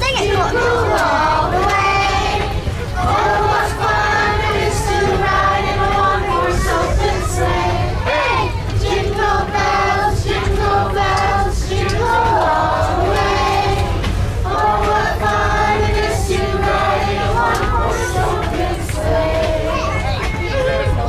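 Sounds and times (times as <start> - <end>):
steady low rumble: 0.0 - 21.0
group singing a carol: 0.1 - 21.0.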